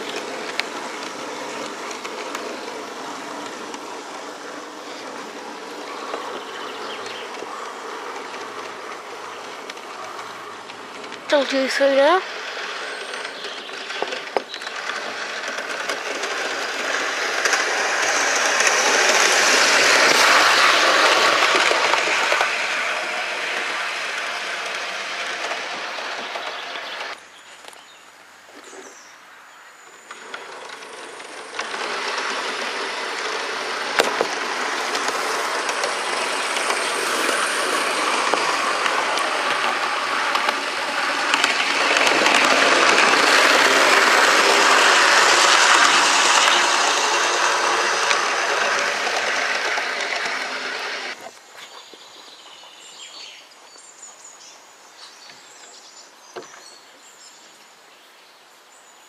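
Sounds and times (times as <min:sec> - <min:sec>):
model train rolling on track: 0:00.0 - 0:59.0.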